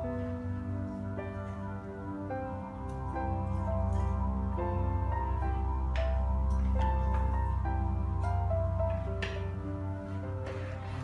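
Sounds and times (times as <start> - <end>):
low bass: 0.0 - 11.0
slow melody: 0.0 - 11.0.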